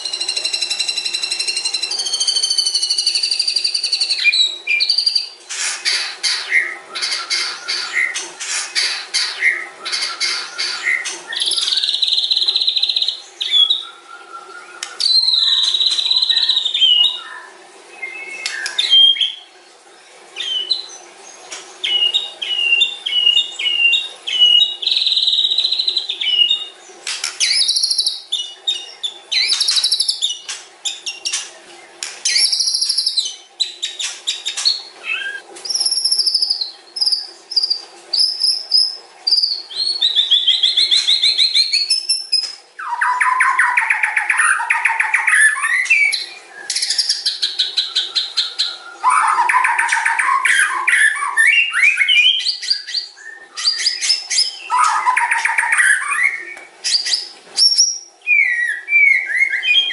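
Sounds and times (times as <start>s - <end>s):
songbird whistling and trilling: 0.0s - 5.4s, 8.8s - 19.4s, 21.8s - 26.7s, 27.4s - 31.5s, 32.3s - 59.9s.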